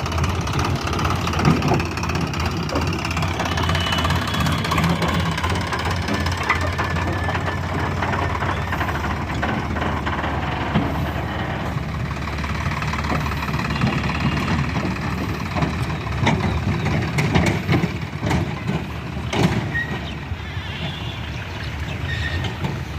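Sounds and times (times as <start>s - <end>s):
diesel tractor engine running: 0.0s - 22.9s.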